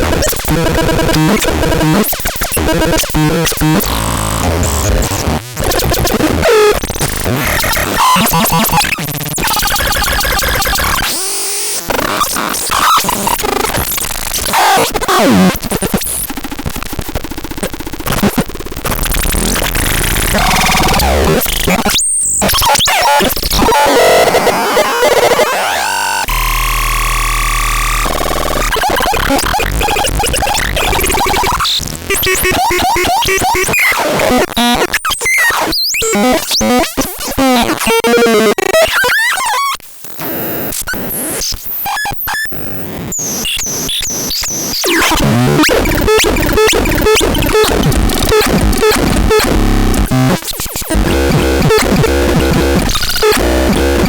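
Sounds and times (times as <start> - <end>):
harsh glitchy synthesizer noise: 0.0 - 54.0.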